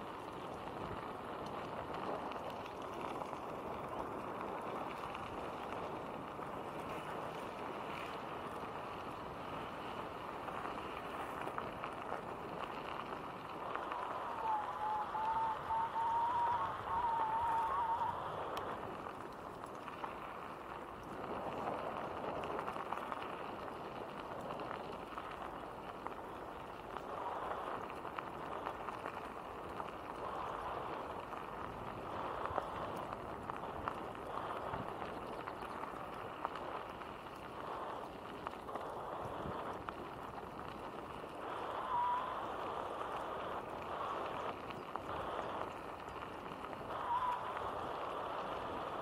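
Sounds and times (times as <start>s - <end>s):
bicycle tyres rolling over gravel: 0.0s - 49.0s
wind on microphone: 0.0s - 49.0s.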